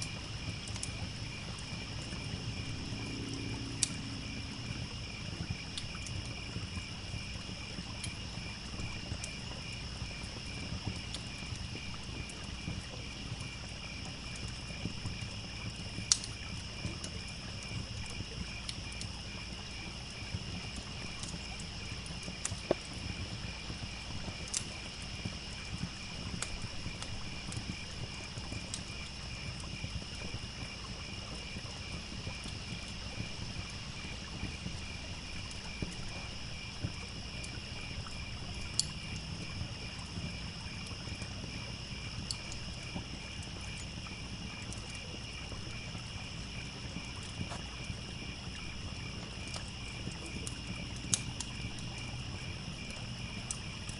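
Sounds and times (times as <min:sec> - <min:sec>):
campfire crackling and popping: 0:00.0 - 0:53.9
crickets chirping: 0:00.0 - 0:53.9.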